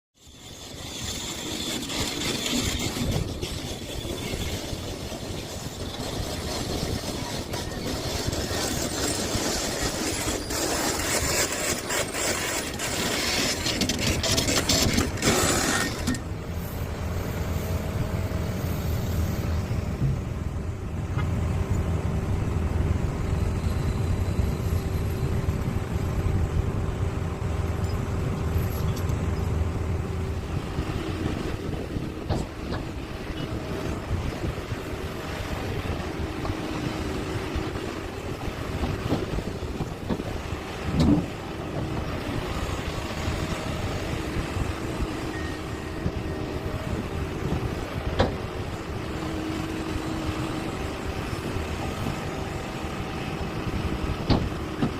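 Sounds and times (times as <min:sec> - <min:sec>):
excavator clattering and hissing: 0:00.2 - 0:20.3, 0:30.4 - 0:54.9.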